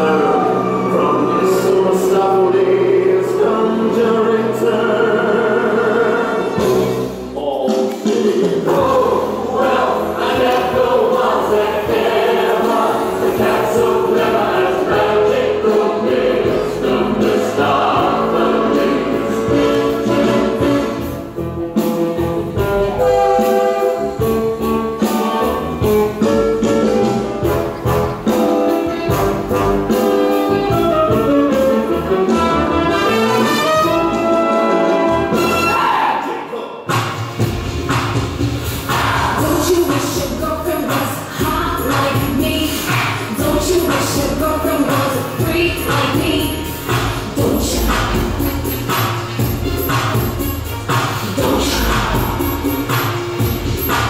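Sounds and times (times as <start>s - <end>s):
choir singing with orchestra: 0.0s - 36.9s, 38.5s - 50.2s, 50.9s - 53.5s.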